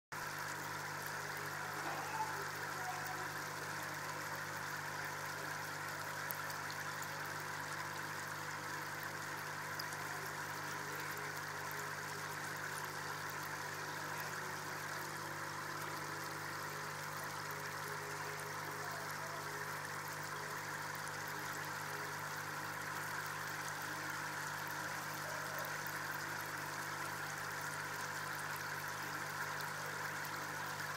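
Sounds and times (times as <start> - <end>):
filter pump humming: 0.1 - 30.9
water trickling: 0.2 - 30.9.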